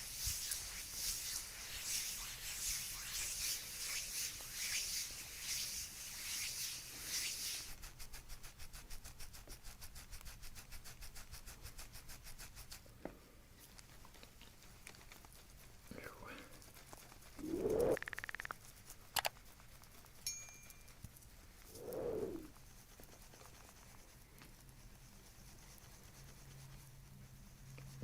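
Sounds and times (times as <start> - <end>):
hands rubbing a back: 0.0 - 12.8, 16.6 - 20.2, 21.5 - 28.0.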